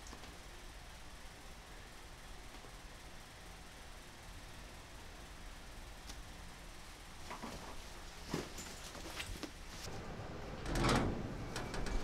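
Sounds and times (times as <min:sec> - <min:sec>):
light hiss: 0:00.0 - 0:09.9.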